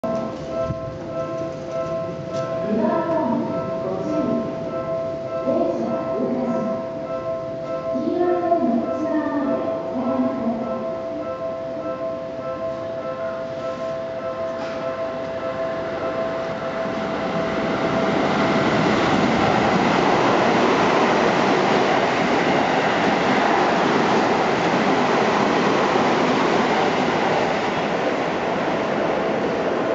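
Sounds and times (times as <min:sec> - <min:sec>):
electric train passing at speed: 0:00.0 - 0:29.9.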